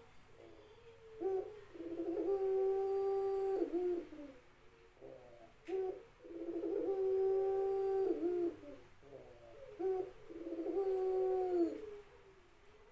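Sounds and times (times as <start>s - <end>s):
dove cooing: 0.0s - 12.9s.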